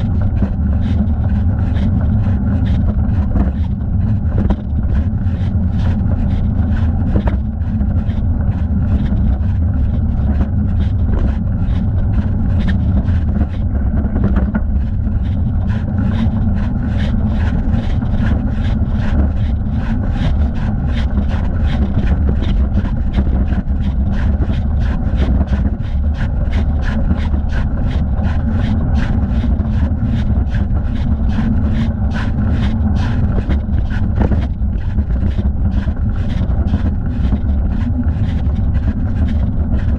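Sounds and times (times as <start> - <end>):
wind and rolling noise rumble: 0.0 - 39.9.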